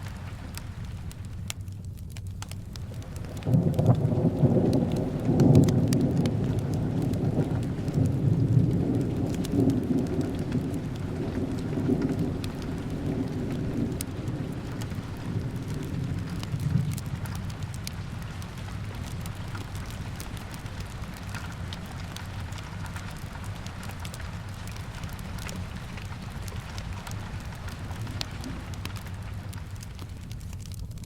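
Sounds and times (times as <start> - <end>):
steady rain: 0.0 - 31.0
wood fire crackling: 0.0 - 31.0
thunder rumble: 2.7 - 30.6.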